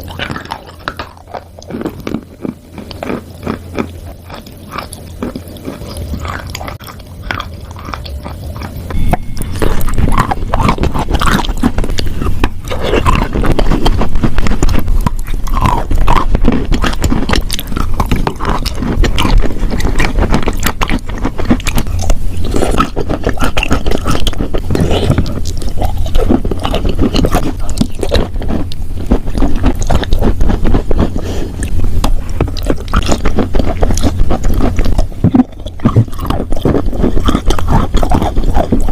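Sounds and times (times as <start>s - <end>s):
chewing and crunching chalk: 0.0s - 38.9s.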